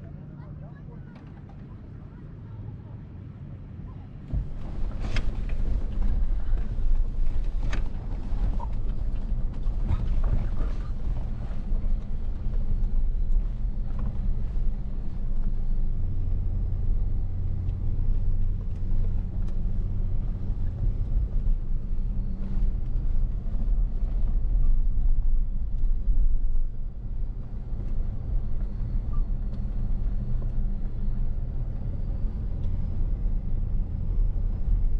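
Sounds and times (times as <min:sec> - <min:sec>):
vehicle engine rumble: 0:00.0 - 0:34.9.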